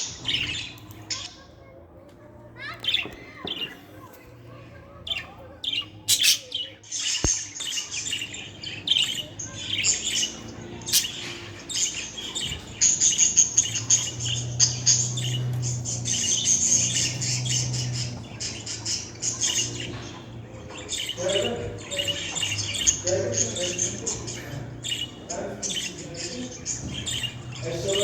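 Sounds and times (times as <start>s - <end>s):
budgie warbling and chirping: 5.1s - 28.0s.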